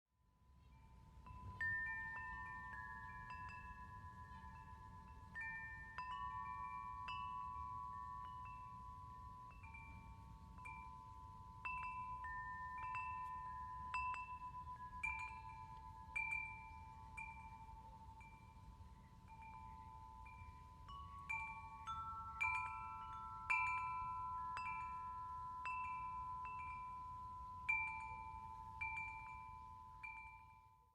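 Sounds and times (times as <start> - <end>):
wind chimes ringing: 0.2 - 30.9.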